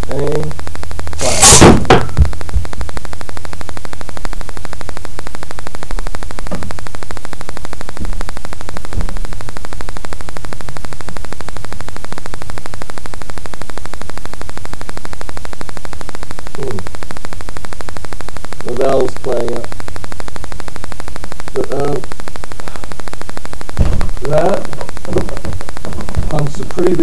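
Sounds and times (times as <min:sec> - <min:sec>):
microphone static and buzzing: 0:00.0 - 0:27.0.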